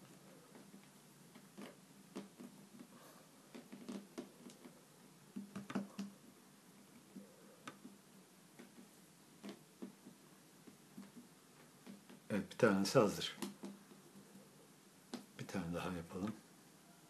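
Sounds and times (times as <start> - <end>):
hands kneading play dough: 0.0 - 16.5
faint steady hum: 0.0 - 17.0.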